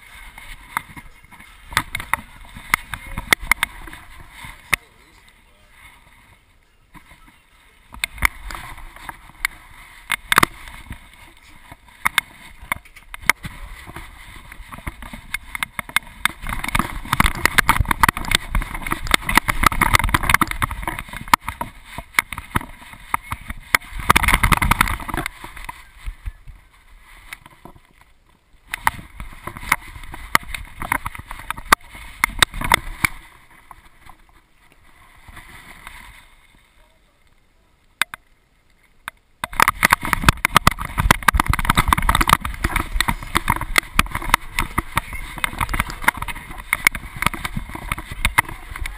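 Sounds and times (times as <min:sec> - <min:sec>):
camera rubbing and knocking: 0:00.0 - 0:36.6, 0:39.1 - 0:48.9
wind noise: 0:00.0 - 0:36.9, 0:39.4 - 0:48.9.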